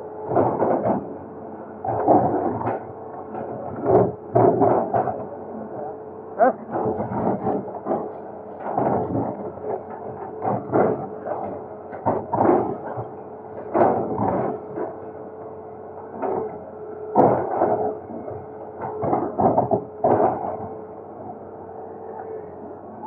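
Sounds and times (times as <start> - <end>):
excavator engine humming: 0.0 - 23.0.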